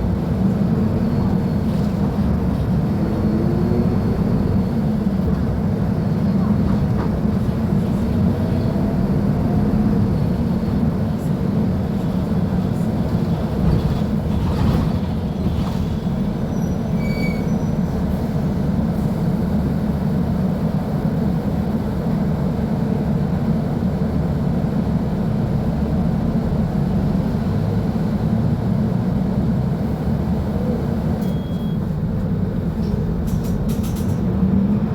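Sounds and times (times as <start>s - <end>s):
diesel bus engine droning: 0.0s - 34.9s.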